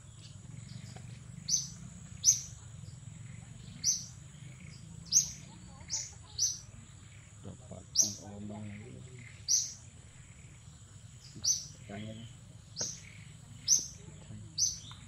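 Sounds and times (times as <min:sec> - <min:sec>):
bird chirping: 0:00.0 - 0:15.0
steady high-pitched whine: 0:00.0 - 0:15.0.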